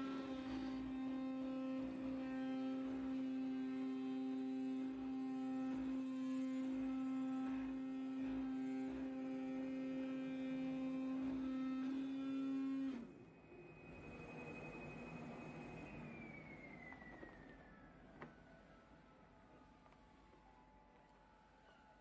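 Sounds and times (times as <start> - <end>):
cutting machine electric hum: 0.0 - 21.2.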